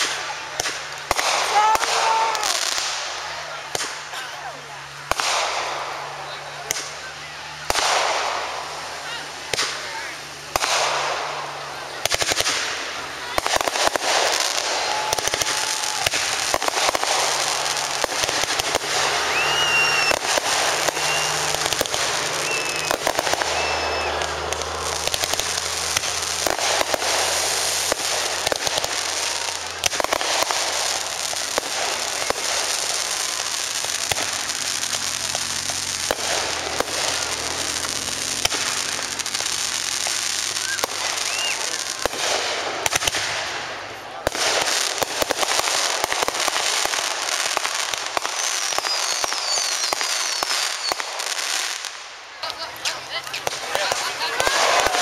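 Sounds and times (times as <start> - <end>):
fireworks bangs and crackling: 0.0 - 55.0
high firework whistles: 4.8 - 52.1.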